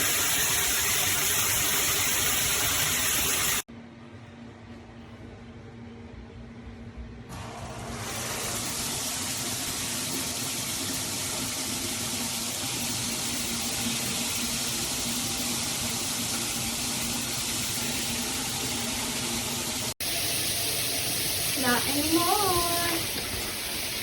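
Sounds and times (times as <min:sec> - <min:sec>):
water spraying from shower head: 0:00.0 - 0:03.6, 0:07.3 - 0:24.0.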